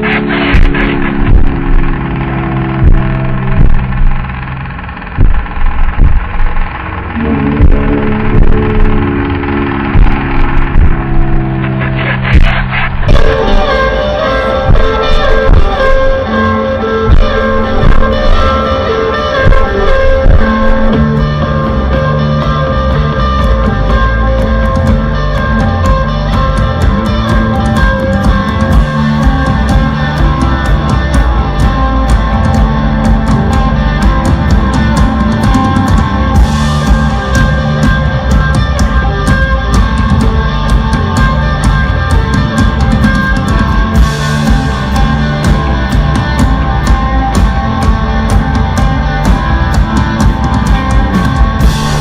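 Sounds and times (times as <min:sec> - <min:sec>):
drum kit: 0:00.0 - 0:52.0
electric guitar: 0:00.0 - 0:52.0.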